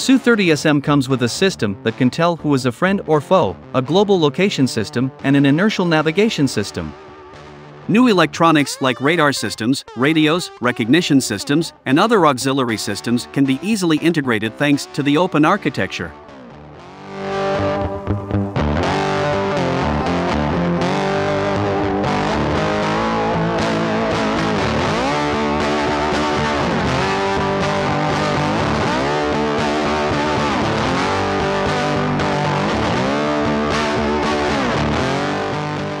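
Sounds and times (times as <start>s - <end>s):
distorted electric guitar rock: 4.8s - 36.0s.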